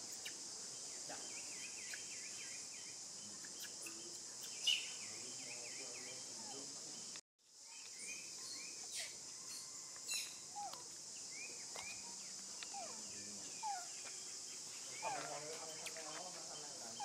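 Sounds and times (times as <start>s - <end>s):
birds chirping: 0.0s - 17.0s
high insect drone: 0.0s - 17.0s.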